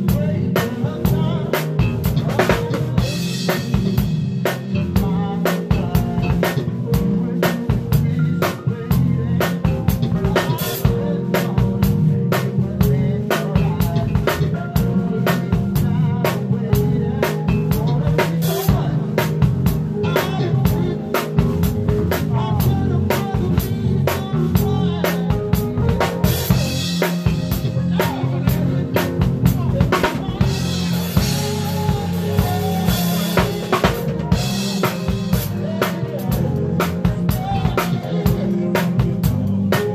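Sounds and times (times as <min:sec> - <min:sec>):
funk band playing: 0:00.0 - 0:39.9.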